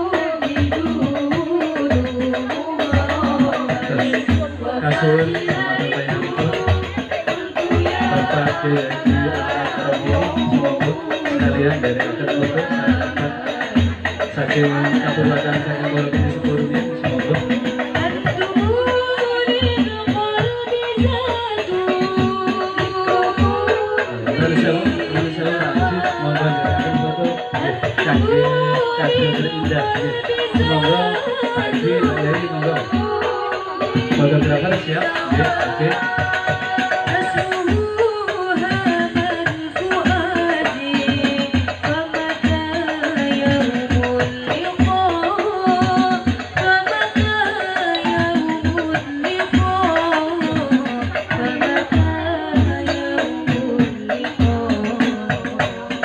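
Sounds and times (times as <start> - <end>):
frame drums beating: 0.0 - 56.0
woman singing through microphone: 0.0 - 56.0.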